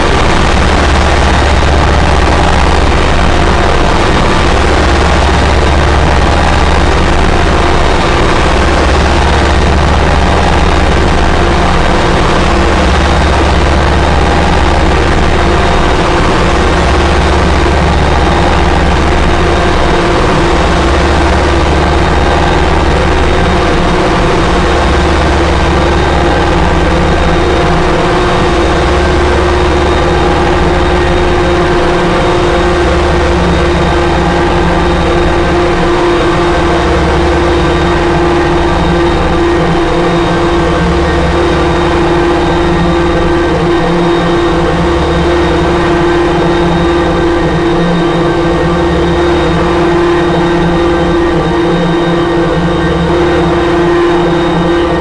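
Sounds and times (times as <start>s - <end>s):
deep low hum: 0.0s - 55.0s
distorted noise wall: 0.0s - 55.0s
sustained droning tones: 0.0s - 55.0s.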